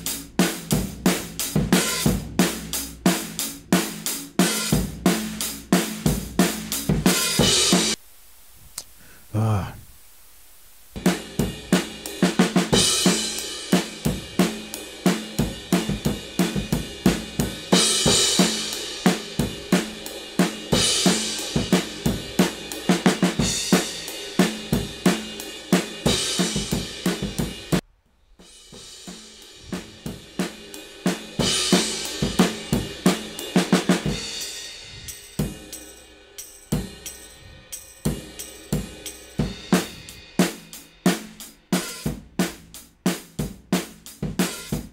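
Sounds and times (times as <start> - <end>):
drum kit beat: 0.0 - 8.0, 10.9 - 27.8, 28.4 - 44.9.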